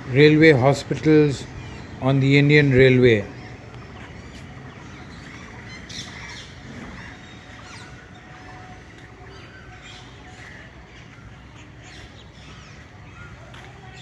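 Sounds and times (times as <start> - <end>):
birds chirping: 0.0 - 14.0
steady low background noise: 0.0 - 14.0.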